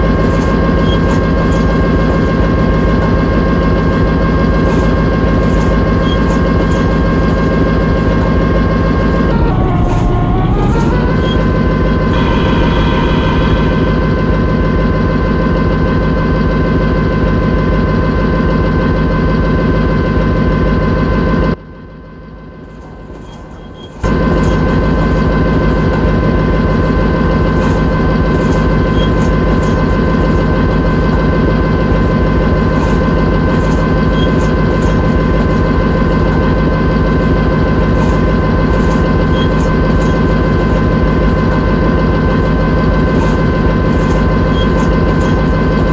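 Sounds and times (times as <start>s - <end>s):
locomotive engine humming: 0.0s - 45.9s.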